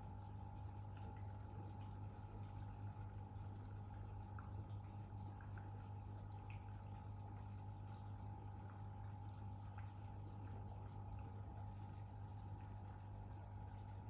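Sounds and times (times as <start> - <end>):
filter pump humming: 0.0 - 14.0
water trickling and dripping: 0.0 - 14.0.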